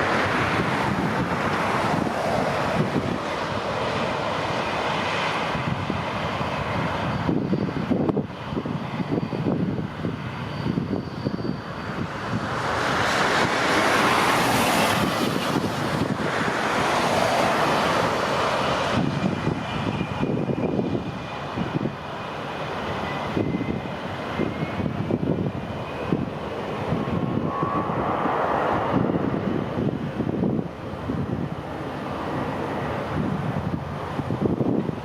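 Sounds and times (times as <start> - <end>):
jet engines hissing and whining: 0.0 - 35.0
wind buffeting microphone: 0.0 - 35.0.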